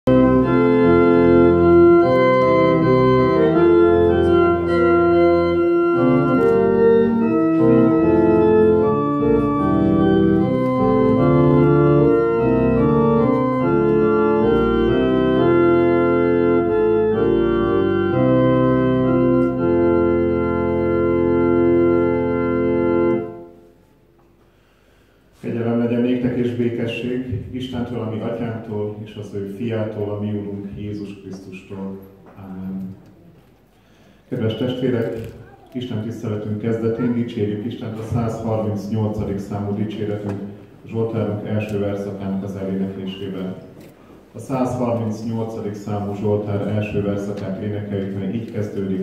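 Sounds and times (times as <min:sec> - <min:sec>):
church organ chords: 0:00.1 - 0:32.1, 0:35.9 - 0:49.0.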